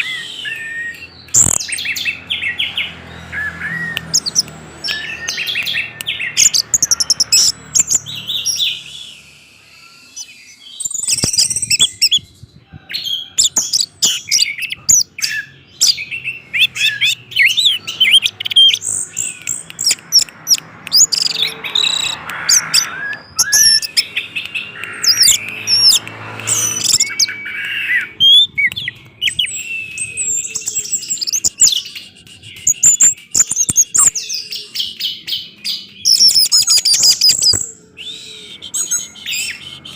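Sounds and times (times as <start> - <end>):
thrush singing: 0.0 - 12.2, 13.0 - 39.9.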